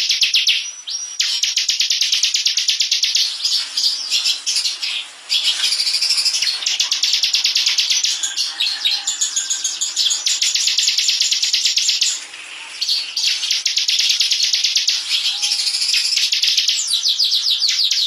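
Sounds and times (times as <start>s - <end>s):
bird singing fast trill: 0.0s - 12.2s, 12.8s - 18.0s.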